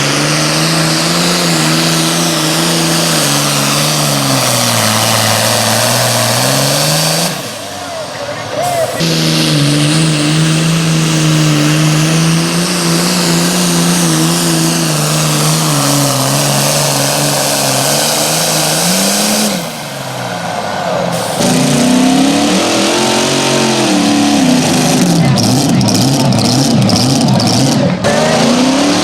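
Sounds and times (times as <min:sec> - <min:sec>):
pulling tractor engine at high rpm: 0:00.0 - 0:29.0.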